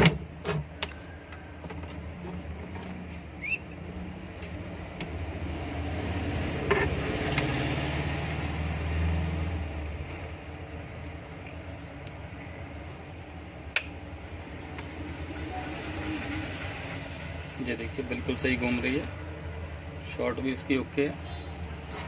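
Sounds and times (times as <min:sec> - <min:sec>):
exhaust fan motor humming: 0:00.0 - 0:22.0.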